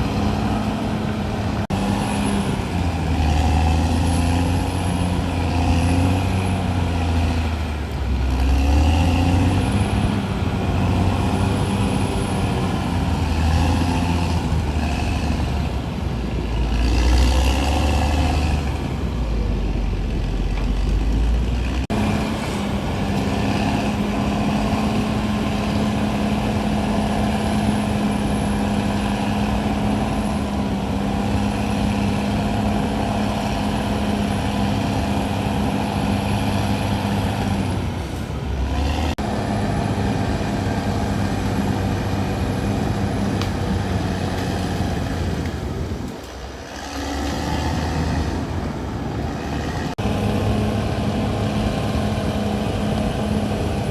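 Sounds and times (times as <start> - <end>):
bulldozer diesel engine droning: 0.0 - 53.9.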